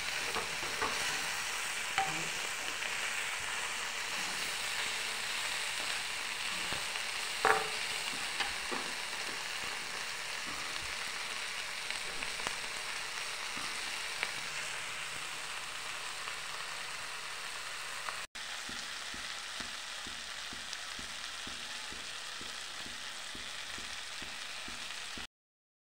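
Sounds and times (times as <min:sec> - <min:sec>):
spatula stirring in pan: 0:00.0 - 0:15.6, 0:18.4 - 0:25.2
okra sizzling in oil: 0:00.0 - 0:25.3.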